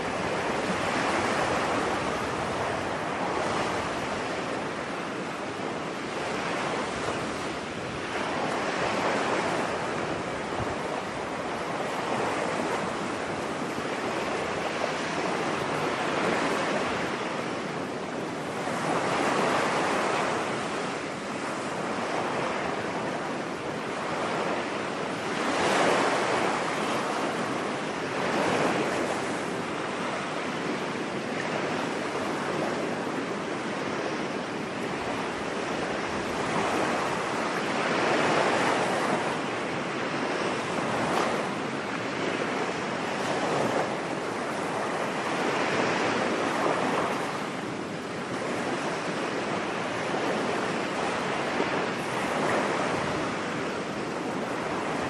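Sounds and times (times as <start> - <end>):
ocean waves washing onto beach: 0.0 - 55.0.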